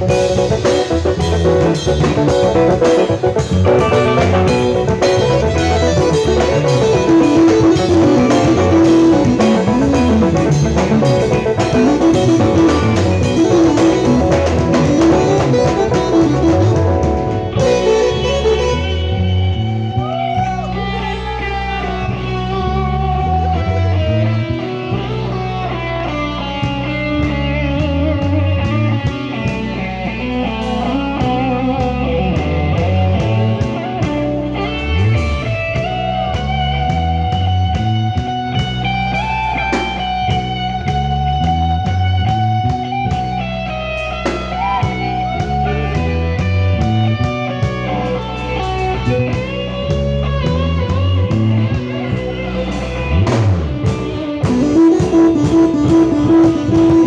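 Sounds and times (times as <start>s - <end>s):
drum kit: 0.0s - 21.0s, 26.6s - 57.0s
bass line: 0.0s - 57.0s
electric guitar lead: 0.0s - 57.0s.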